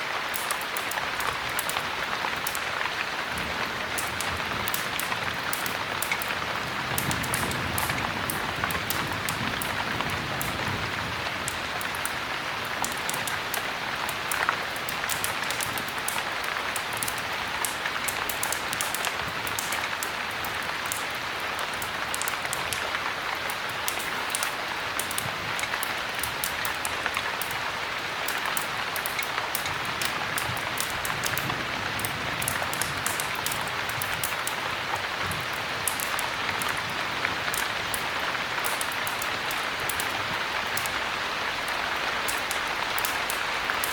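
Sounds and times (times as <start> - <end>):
heavy rain: 0.0 - 43.9
small sharp ticks: 0.3 - 2.9, 3.9 - 10.7, 12.8 - 27.6, 28.2 - 34.6, 35.2 - 41.0, 41.6 - 43.9.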